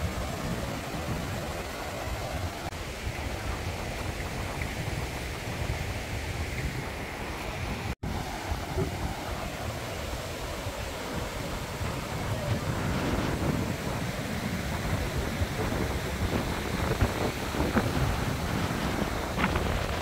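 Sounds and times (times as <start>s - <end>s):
river water rushing over rocks: 0.0s - 20.0s
wind buffeting microphone: 0.0s - 20.0s.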